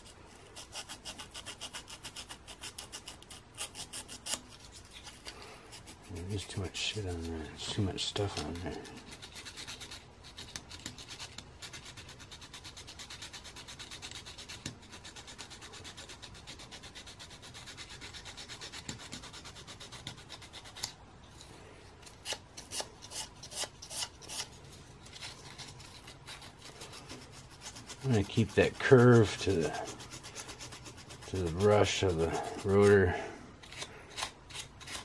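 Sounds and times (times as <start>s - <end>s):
sandpaper rubbing: 0.0s - 21.0s, 22.1s - 35.0s
sharp scrapes: 0.0s - 35.0s.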